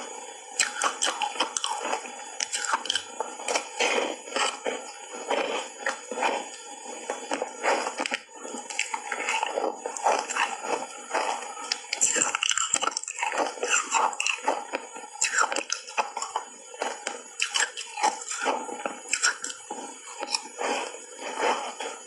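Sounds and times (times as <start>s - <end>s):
ice being chewed with crunches: 0.0s - 22.0s.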